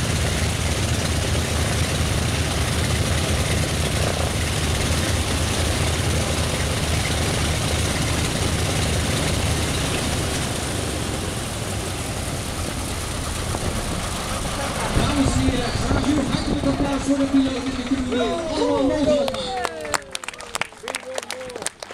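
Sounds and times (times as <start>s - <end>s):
propeller aircraft engines running: 0.0s - 20.9s.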